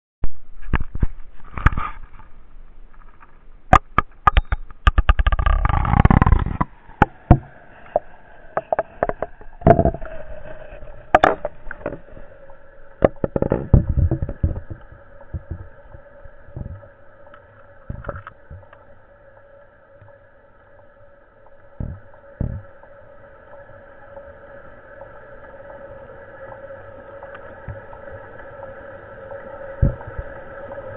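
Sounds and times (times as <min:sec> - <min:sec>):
muffled water rush: 0:00.3 - 0:30.9
aquarium pump humming: 0:05.3 - 0:30.9.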